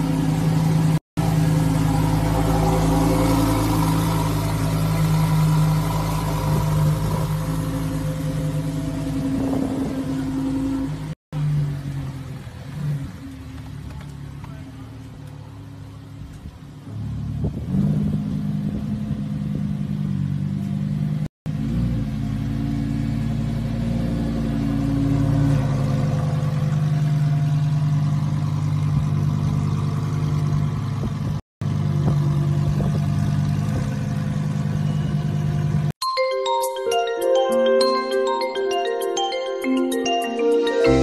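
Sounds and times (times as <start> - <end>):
car engine idling high: 0.0 - 17.8, 18.7 - 35.9.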